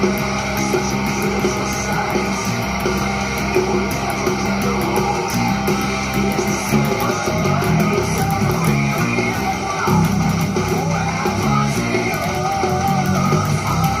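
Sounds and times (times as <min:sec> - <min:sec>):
electric bass guitar line: 0:00.0 - 0:14.0
heavy metal band playing: 0:00.0 - 0:14.0.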